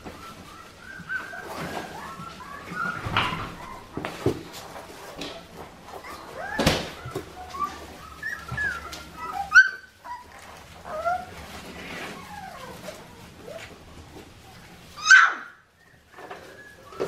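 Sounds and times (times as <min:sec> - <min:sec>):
puppies whining and yipping: 0:00.0 - 0:17.0.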